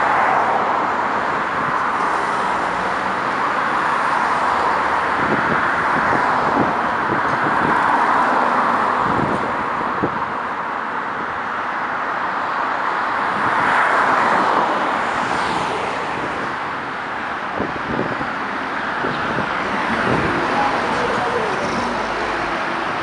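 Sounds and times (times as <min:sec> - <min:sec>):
expressway traffic: 0:00.0 - 0:23.0.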